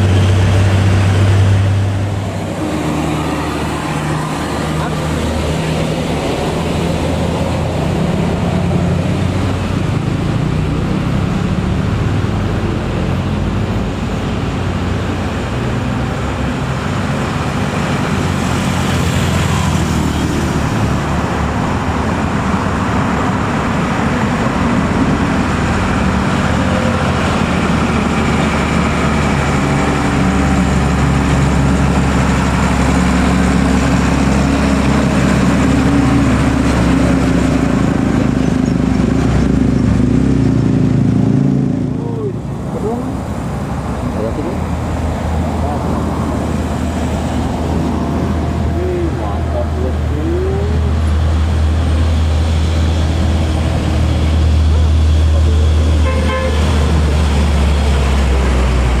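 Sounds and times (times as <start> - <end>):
truck diesel engine pulling uphill: 0.0 - 59.0.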